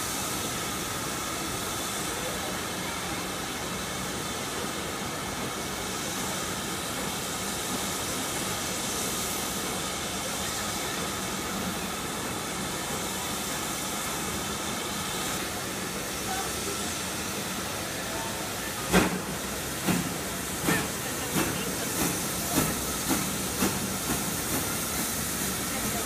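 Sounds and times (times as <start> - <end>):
steam locomotive hissing: 0.0 - 26.0.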